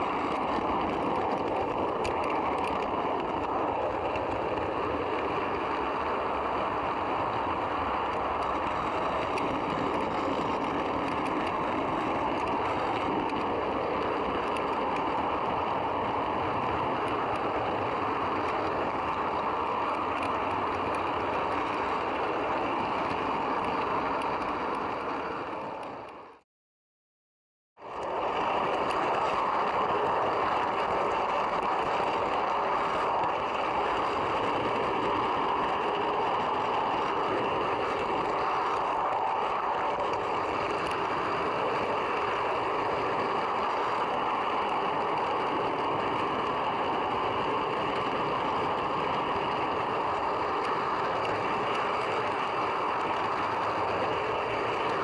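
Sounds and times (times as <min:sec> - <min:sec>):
model train wheels rattling on track: 0:00.0 - 0:26.4, 0:27.8 - 0:55.0.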